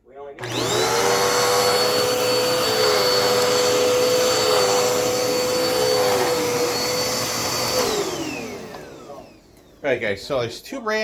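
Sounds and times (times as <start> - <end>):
vacuum cleaner motor whine: 0.4 - 10.0.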